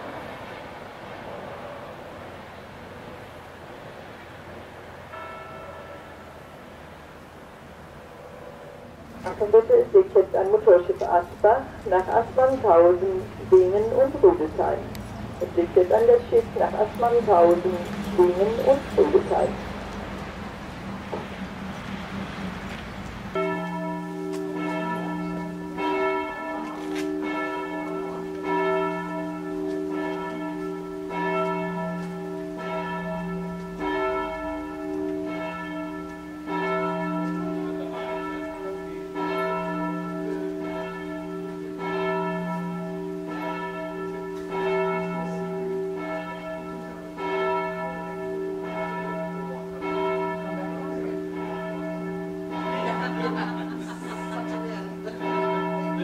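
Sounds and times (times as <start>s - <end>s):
church bells ringing: 5.1s - 56.0s.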